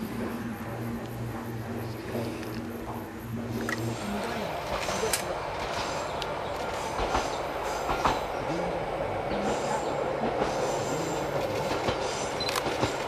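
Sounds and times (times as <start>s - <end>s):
diesel railcar rumbling: 0.0s - 13.0s.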